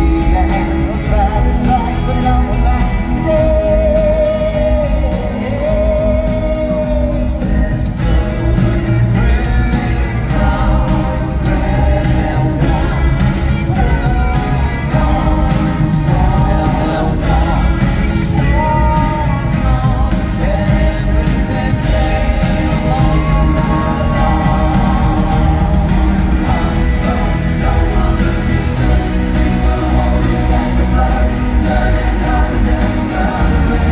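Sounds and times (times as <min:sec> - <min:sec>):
pop band playing live: 0:00.0 - 0:33.9
voices singing a melody: 0:00.0 - 0:33.9.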